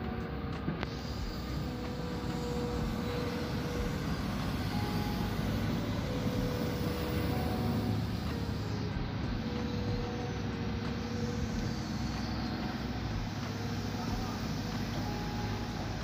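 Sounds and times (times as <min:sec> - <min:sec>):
engine running steadily: 0:00.0 - 0:16.0
faint hum: 0:00.0 - 0:16.0
rushing noise: 0:00.0 - 0:16.0.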